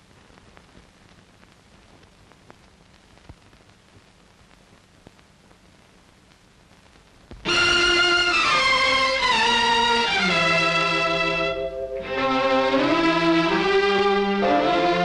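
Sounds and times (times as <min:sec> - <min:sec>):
film soundtrack surface noise: 0:00.0 - 0:15.0.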